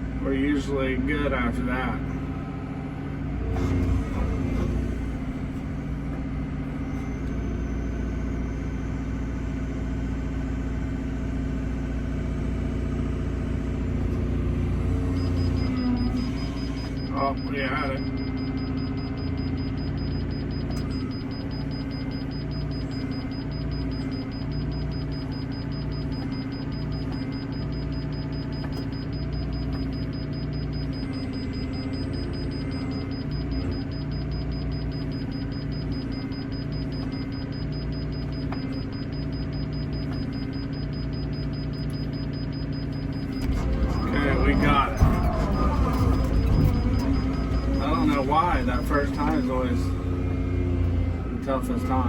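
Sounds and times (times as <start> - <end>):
excavator engine humming: 0.0 - 52.0.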